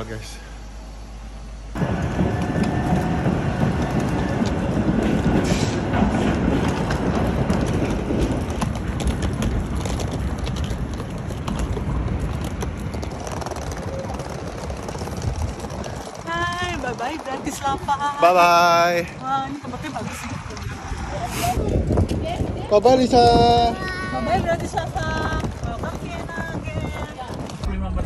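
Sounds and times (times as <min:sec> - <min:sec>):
street noise: 0:00.0 - 0:28.0
suitcase wheels rattling over paving: 0:01.8 - 0:27.9.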